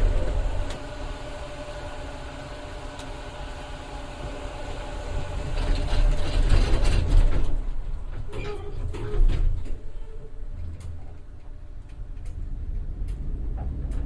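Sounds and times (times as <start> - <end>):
elevator mechanical rumble: 0.0 - 14.0.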